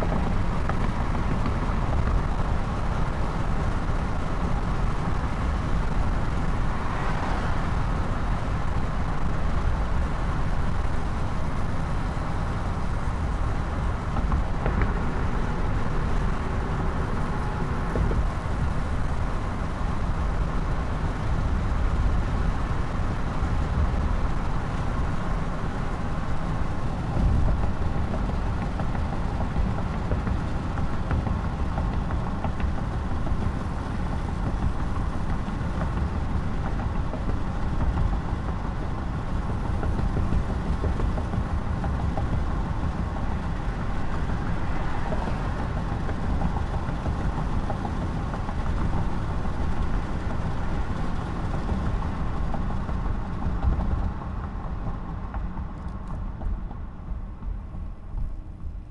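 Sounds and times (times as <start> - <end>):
car tyres and engine rumbling: 0.0 - 58.9.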